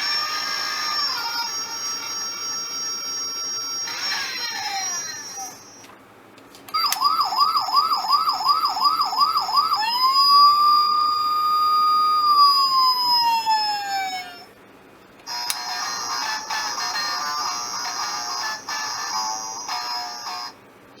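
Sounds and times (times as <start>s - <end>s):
toy electronic siren: 0.0s - 5.9s, 6.8s - 14.5s, 15.3s - 20.6s.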